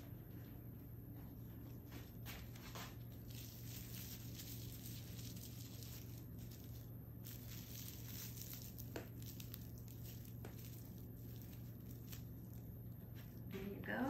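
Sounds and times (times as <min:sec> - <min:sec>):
steady low hum: 0:00.0 - 0:14.0
plastic ribbon rustling: 0:01.8 - 0:13.5.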